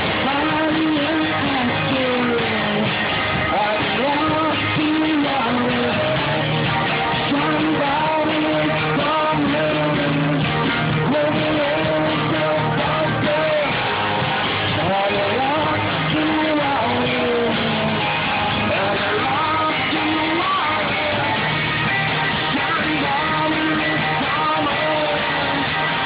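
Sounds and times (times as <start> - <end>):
person singing: 0.0 - 26.0
strummed guitar: 0.0 - 26.0.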